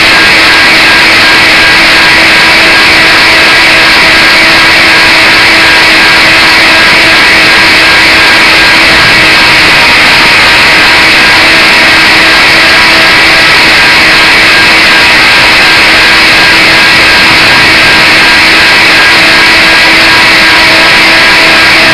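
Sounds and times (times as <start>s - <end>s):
rc helicopter motor and rotor whine: 0.0s - 21.9s.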